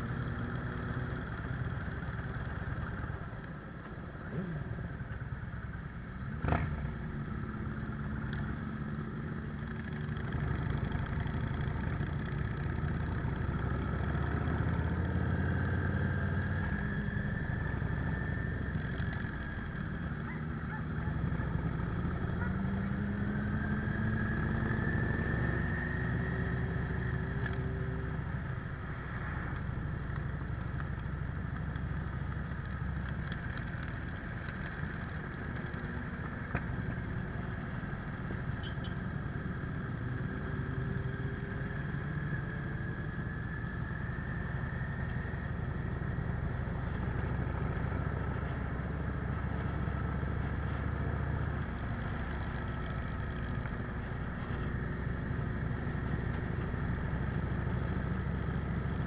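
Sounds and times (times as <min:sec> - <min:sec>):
motorcycle engine running: 0:04.2 - 0:59.0.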